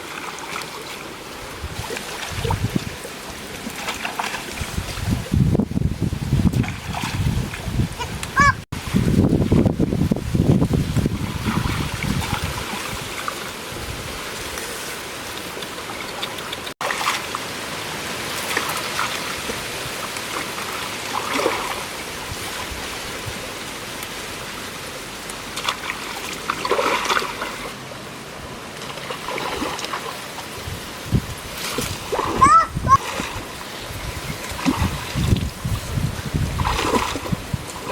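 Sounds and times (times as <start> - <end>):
water splashes: 0.0 - 37.9.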